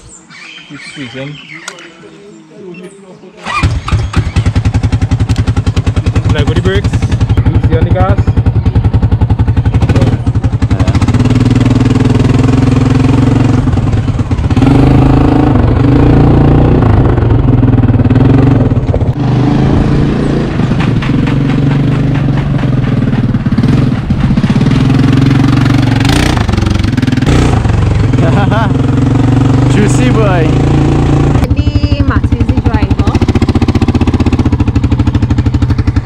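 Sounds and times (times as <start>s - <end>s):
atv engine revving: 3.4s - 36.0s.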